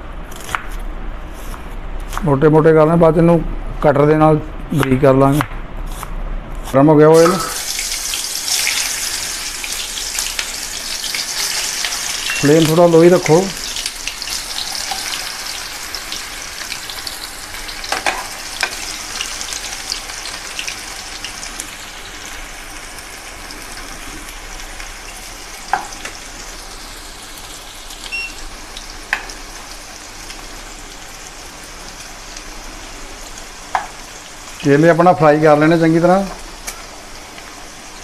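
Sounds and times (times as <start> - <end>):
food sizzling in hot oil: 7.2 - 38.0.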